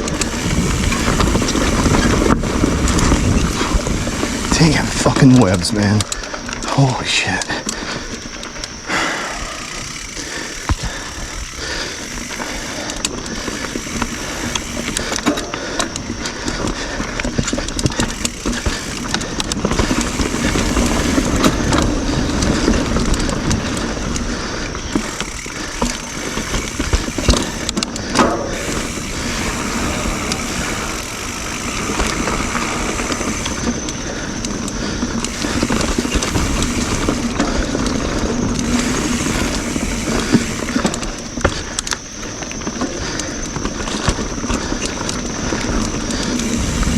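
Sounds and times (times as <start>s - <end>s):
bike knocking and rattling: 0.0s - 46.9s
tyre and trail noise: 0.0s - 46.9s.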